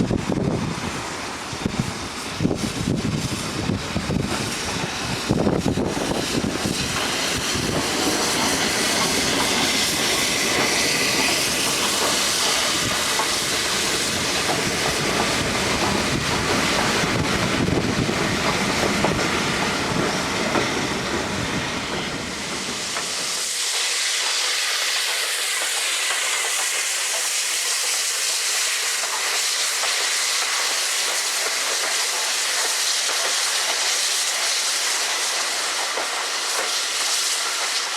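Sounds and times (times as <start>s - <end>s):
steam locomotive hissing steam: 0.0s - 37.9s.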